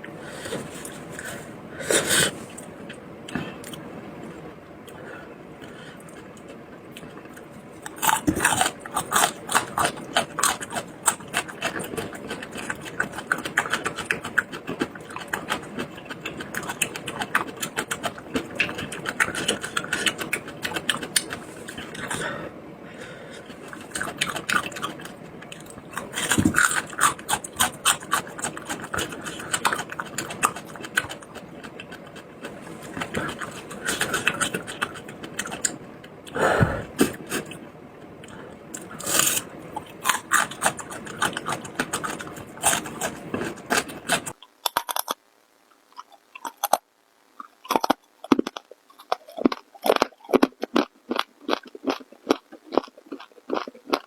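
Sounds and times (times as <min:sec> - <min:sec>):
person chewing food: 0:00.3 - 0:45.2, 0:46.0 - 0:46.8, 0:47.4 - 0:54.0.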